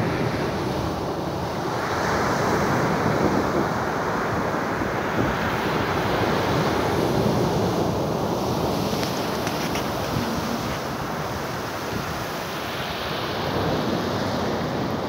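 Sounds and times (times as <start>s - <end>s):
surf breaking on sandy beach: 0.0s - 15.0s.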